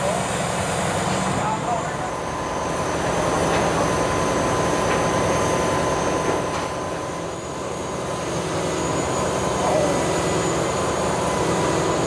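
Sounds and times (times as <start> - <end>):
diesel engine running: 0.0 - 12.0
drilling rig mechanical noise: 0.0 - 12.0
thin steady whine: 0.0 - 12.0.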